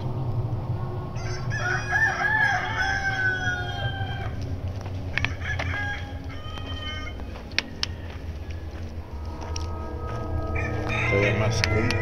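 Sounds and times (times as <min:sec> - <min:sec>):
rooster crowing: 0:00.9 - 0:12.0.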